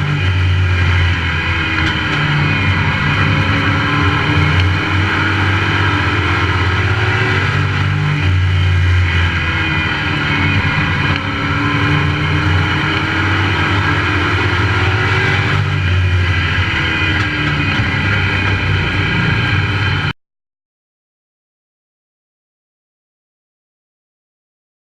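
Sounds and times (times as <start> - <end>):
race truck engine revving: 0.0 - 20.1.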